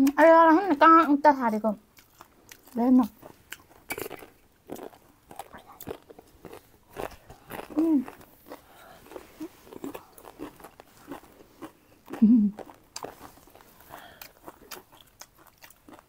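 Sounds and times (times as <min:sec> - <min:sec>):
crunchy food chewing: 0:01.9 - 0:16.0.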